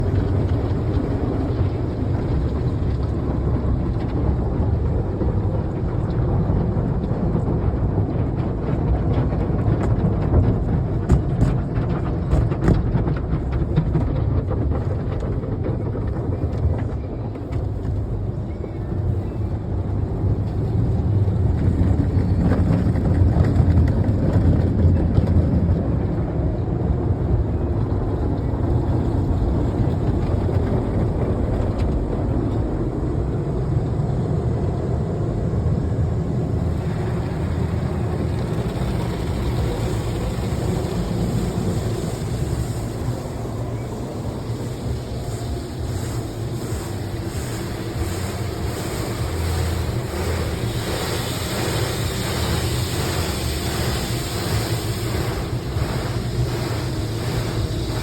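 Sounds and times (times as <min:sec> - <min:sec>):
car wash rumble: 0:00.0 - 0:58.0.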